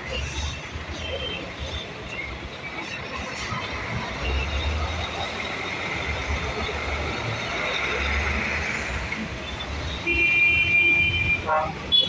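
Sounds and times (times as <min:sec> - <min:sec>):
diesel truck engines rumbling: 0:00.0 - 0:10.3
tyre and road noise: 0:00.0 - 0:12.0.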